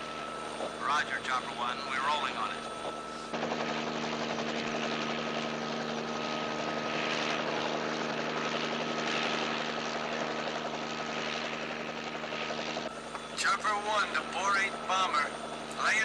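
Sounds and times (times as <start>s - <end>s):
engine drone with high whine: 0.0s - 16.0s
helicopter rotor chopping: 0.0s - 16.0s.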